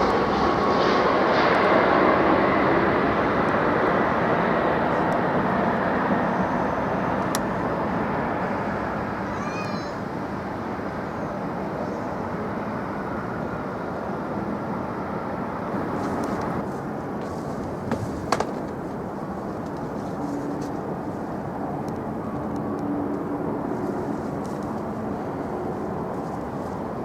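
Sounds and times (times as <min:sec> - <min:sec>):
distant engines rumbling: 0:00.0 - 0:27.0.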